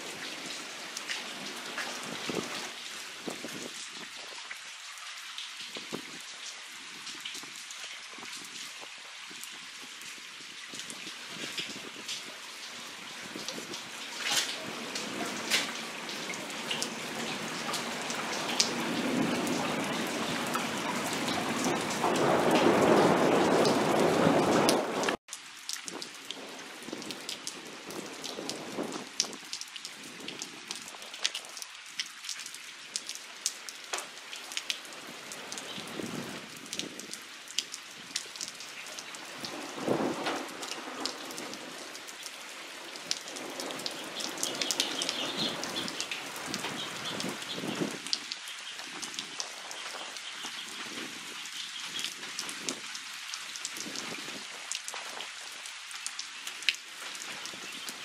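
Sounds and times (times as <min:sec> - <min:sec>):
heavy rain pouring: 0:00.0 - 0:58.0
sharp raindrop ticks: 0:10.7 - 0:58.0.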